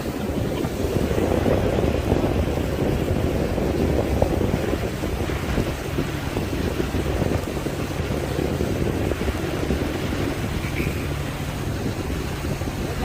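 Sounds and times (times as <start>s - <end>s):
boat engine humming: 0.0s - 13.0s
water rushing past hull: 0.0s - 13.0s
wind buffeting microphone: 0.0s - 13.0s.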